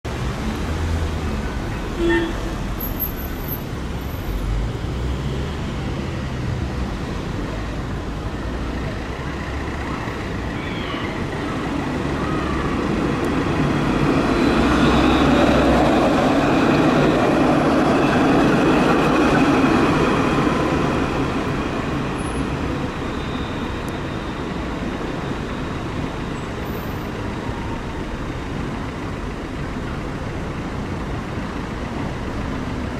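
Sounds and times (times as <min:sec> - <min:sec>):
street traffic noise: 0:00.0 - 0:32.9
tram passing with high whine: 0:00.2 - 0:32.9.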